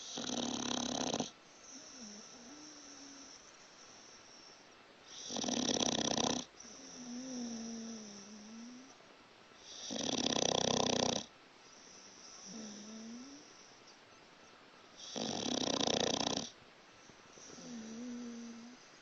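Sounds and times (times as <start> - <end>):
dog snoring: 0.0 - 9.0, 9.6 - 13.8, 15.0 - 16.6, 17.3 - 18.9.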